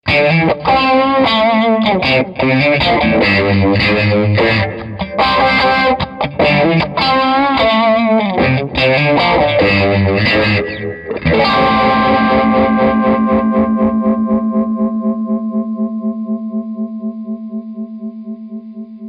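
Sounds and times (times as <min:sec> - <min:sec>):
distorted electric guitar with vibrato: 0:00.0 - 0:19.0.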